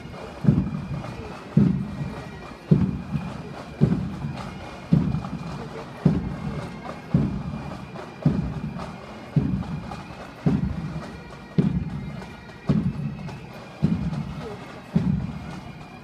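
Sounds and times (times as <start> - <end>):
bagpipe band playing a march: 0.0 - 16.0.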